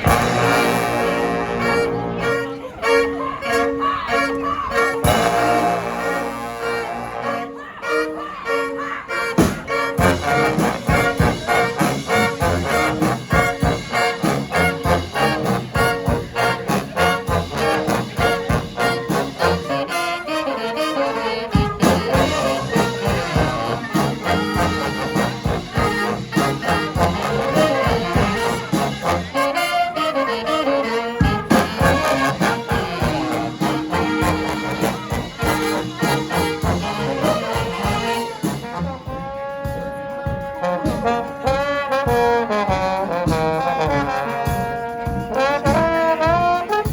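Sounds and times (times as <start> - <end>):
drums keeping a steady beat: 0.0 - 7.4, 9.3 - 46.9
brass band playing: 0.0 - 46.9.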